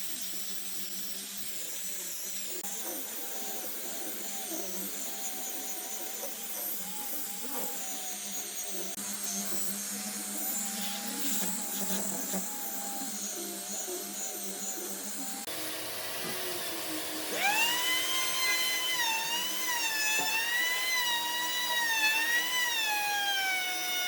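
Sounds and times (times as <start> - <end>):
power tool motor whining: 0.0 - 24.0.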